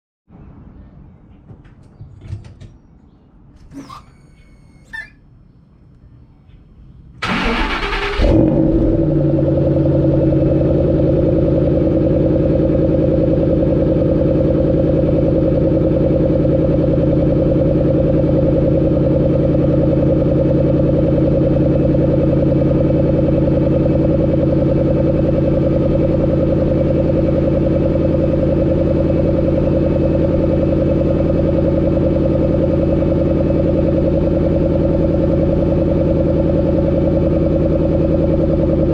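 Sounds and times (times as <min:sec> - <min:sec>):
car engine idling: 0:03.6 - 0:38.9.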